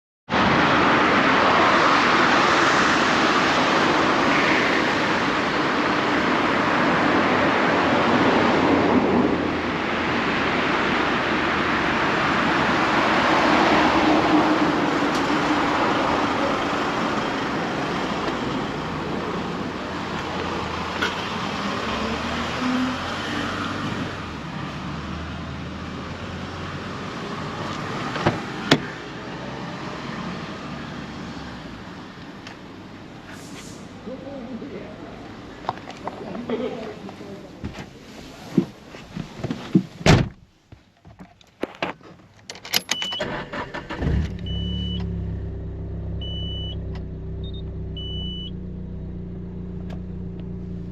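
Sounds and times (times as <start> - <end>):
road traffic rushing past: 0.3 - 39.3, 42.8 - 50.9.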